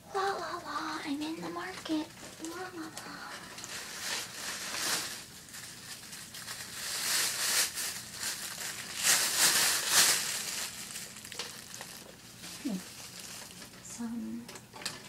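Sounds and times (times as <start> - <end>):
plastic bag crinkling: 1.5 - 13.9.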